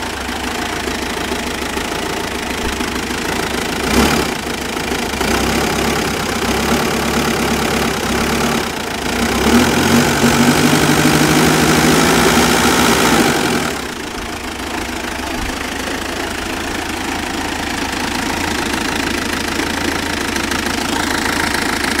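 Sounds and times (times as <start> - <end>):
engine idling rough and revving: 0.0 - 22.0.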